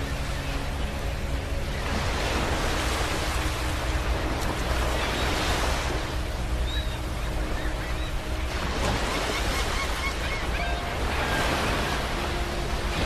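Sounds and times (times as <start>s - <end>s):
low rumble of the sea: 0.0s - 13.0s.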